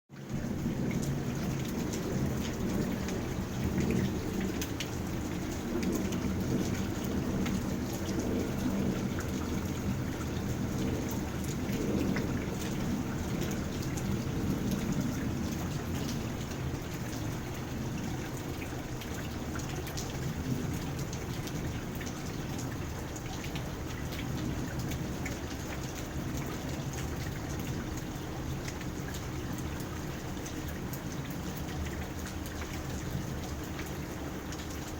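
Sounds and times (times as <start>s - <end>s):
rain pattering on water: 0.1s - 34.9s.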